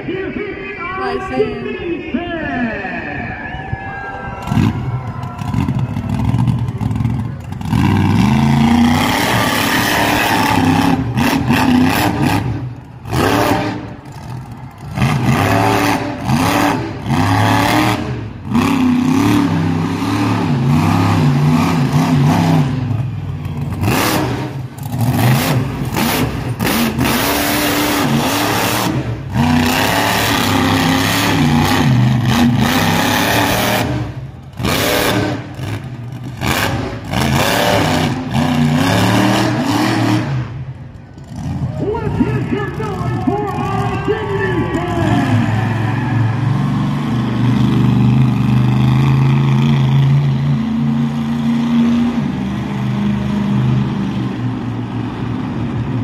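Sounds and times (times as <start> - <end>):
monster truck engine revving: 3.9 - 56.0.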